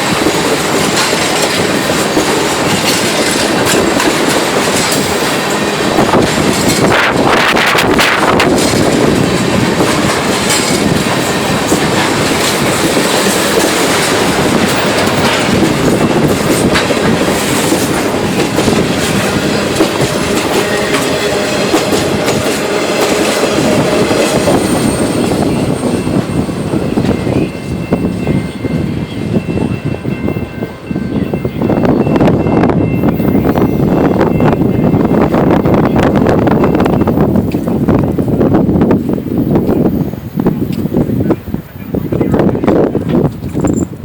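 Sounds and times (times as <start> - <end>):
train wheels clattering over rails: 0.0 - 44.0.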